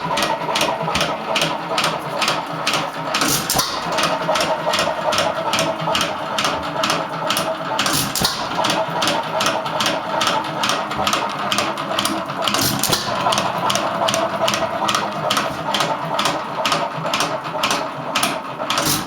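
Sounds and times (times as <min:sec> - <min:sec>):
stationary engine running: 0:00.0 - 0:19.0.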